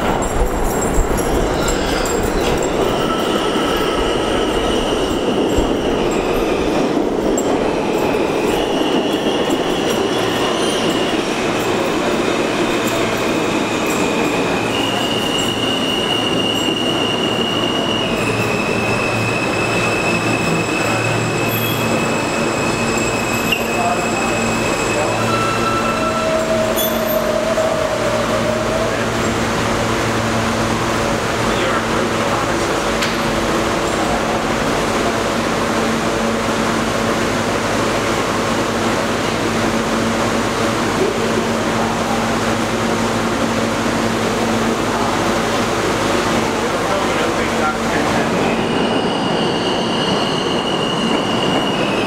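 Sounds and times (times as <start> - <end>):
low hum of stopped train: 0.0 - 52.0
subway train braking: 0.0 - 52.0
wheel and rail rumble: 0.0 - 52.0.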